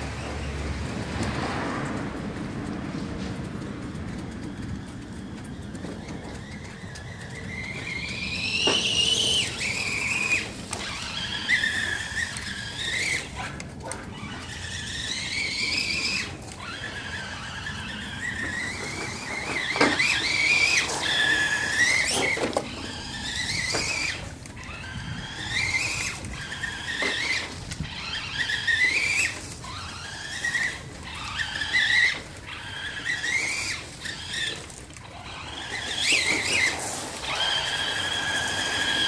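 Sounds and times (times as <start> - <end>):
electric motor whining: 4.8 - 39.0.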